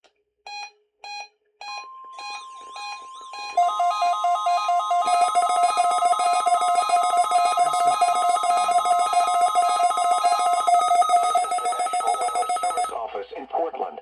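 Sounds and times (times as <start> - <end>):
steady alarm tone: 1.7 - 12.9.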